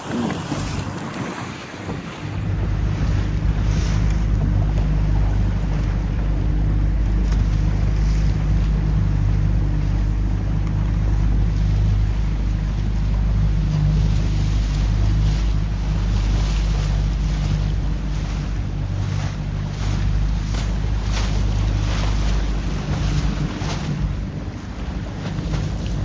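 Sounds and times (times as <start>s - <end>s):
motorboat engine running: 0.0s - 26.0s
water noise from hull: 0.0s - 26.0s
wind on microphone: 0.0s - 26.0s.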